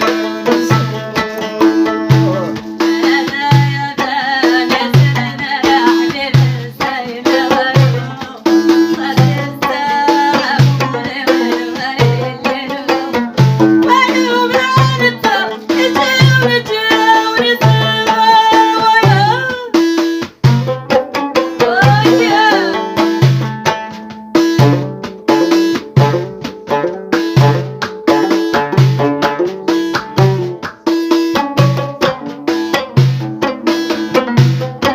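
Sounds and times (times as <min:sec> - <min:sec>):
folk melody bending in pitch: 0:00.0 - 0:34.9
hand drum beat: 0:00.0 - 0:34.9.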